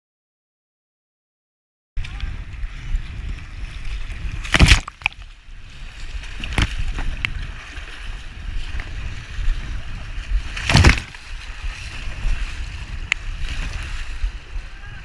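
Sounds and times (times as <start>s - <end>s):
loud water splashes: 2.0s - 15.0s
rushing and sloshing water: 2.0s - 15.0s.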